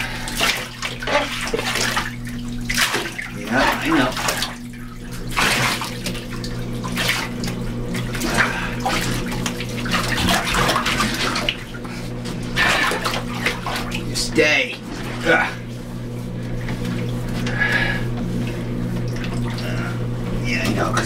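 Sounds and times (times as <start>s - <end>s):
bathwater splashing: 0.0s - 21.0s
steady low hum: 0.0s - 21.0s.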